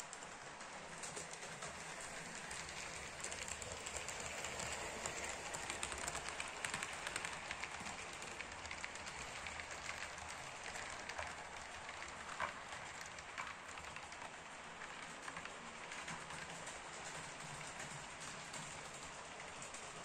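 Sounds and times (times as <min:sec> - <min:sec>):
model train wheels rattling on rails: 0:00.0 - 0:20.0.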